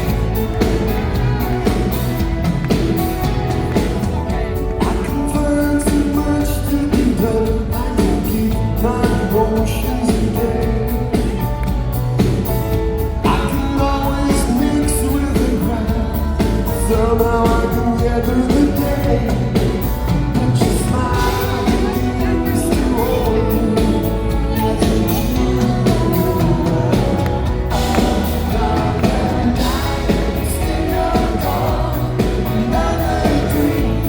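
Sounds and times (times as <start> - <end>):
man singing lead vocal: 0.0 - 34.0
pop-rock band playing: 0.0 - 34.0
steady drum beat: 0.0 - 34.0.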